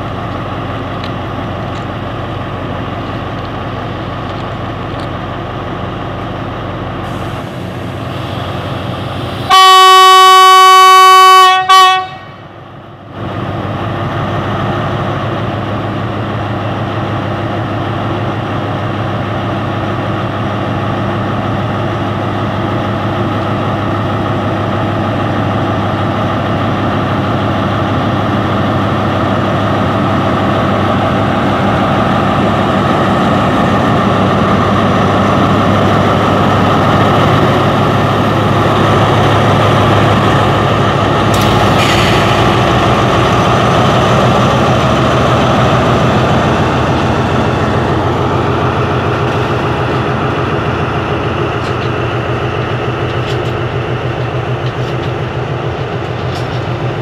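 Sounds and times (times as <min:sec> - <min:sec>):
locomotive engine running: 0:00.0 - 0:57.0.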